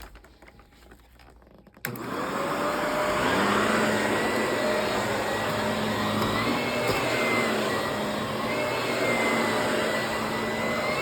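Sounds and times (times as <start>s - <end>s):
vacuum cleaner running: 1.8s - 11.0s.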